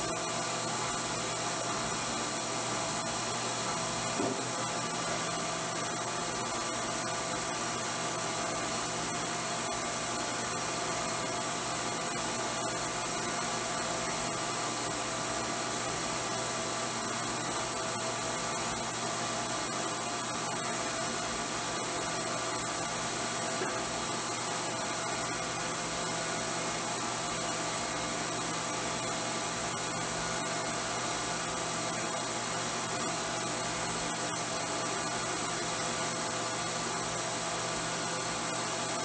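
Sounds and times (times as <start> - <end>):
milling machine spindle whine: 0.0 - 39.0.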